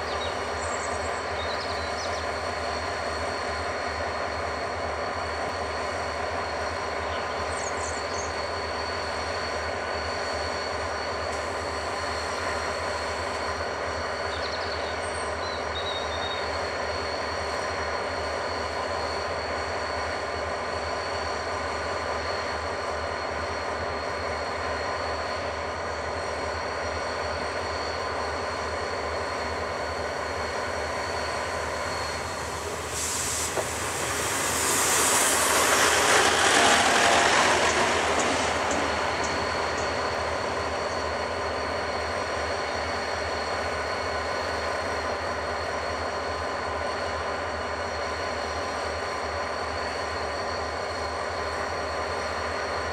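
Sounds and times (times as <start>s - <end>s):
diesel locomotives idling: 0.0s - 47.9s.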